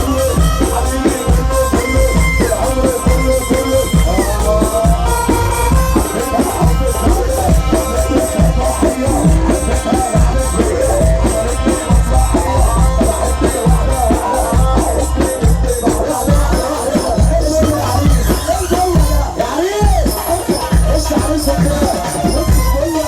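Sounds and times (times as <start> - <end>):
electronic dance music: 0.0 - 23.0.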